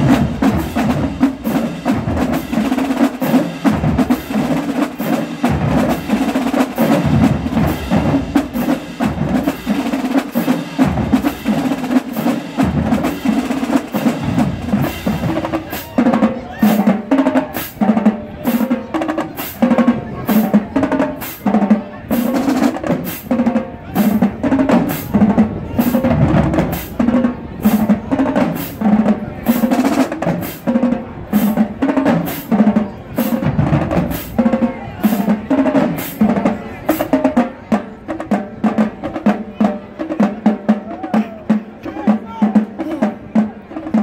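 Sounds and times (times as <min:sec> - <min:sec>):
drumline playing a cadence: 0:00.0 - 0:44.0.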